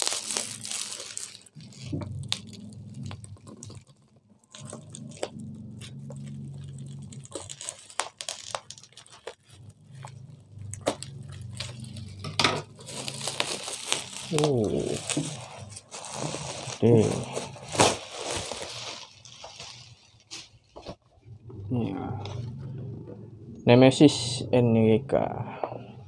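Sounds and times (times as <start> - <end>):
bubble wrap crinkling: 0.0 - 21.1
low steady hum: 0.1 - 26.0.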